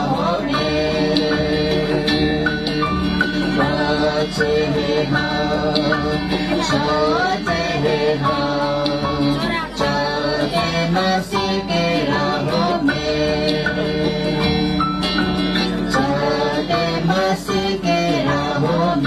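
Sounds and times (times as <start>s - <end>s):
children singing together: 0.0s - 14.8s, 15.6s - 19.0s
instrumental accompaniment: 0.0s - 19.0s.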